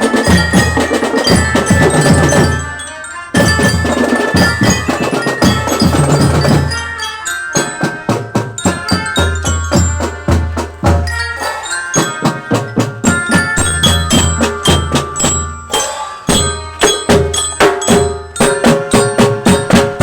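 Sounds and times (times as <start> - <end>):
marching drums beating: 0.0 - 7.0, 7.6 - 20.0
marching glockenspiel notes: 0.0 - 20.0.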